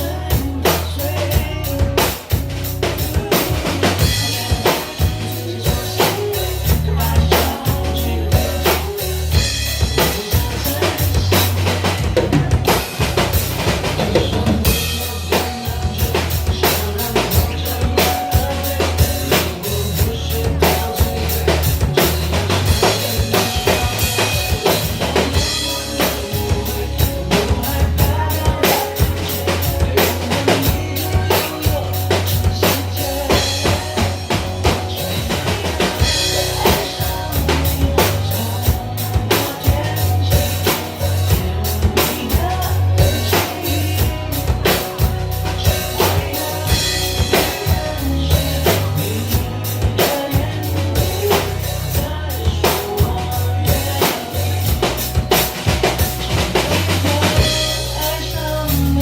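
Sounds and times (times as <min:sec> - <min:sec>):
band backing with bass: 0:00.0 - 0:59.0
drum kit pop beat: 0:00.0 - 0:59.0.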